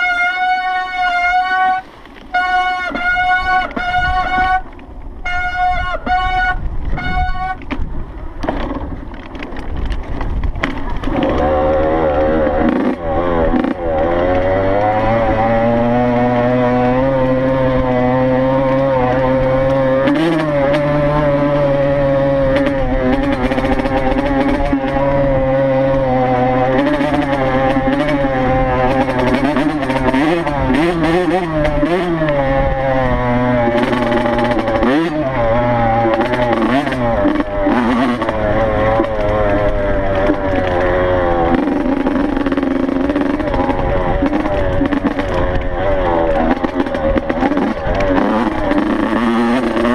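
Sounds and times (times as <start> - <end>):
two-stroke dirt bike engine: 0.0 - 49.9.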